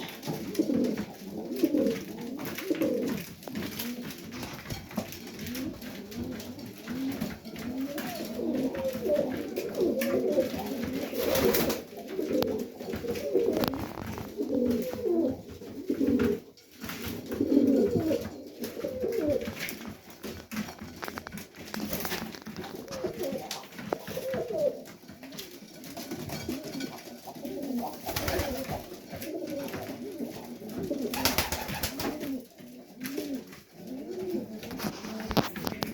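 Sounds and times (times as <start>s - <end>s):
pigeons cooing: 0.0s - 35.9s
wing flutters and shuffling: 0.1s - 35.9s.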